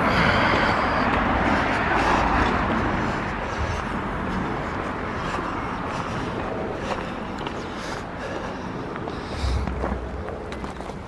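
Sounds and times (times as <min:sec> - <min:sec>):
road traffic tyre noise: 0:00.0 - 0:11.0.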